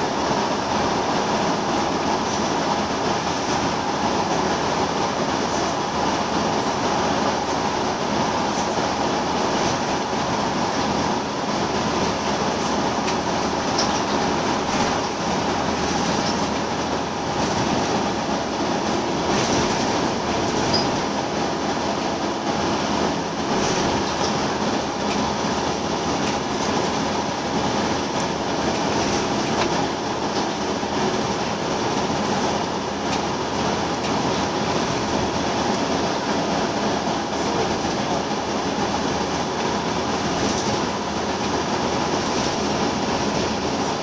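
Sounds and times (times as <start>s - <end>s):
bus diesel engine drone: 0.0s - 44.0s
road and tyre noise: 0.0s - 44.0s.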